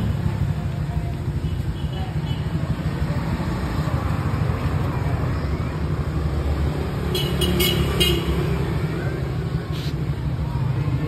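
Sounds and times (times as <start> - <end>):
motorbike passing: 0.0 - 11.0
traffic rumble: 0.0 - 11.0.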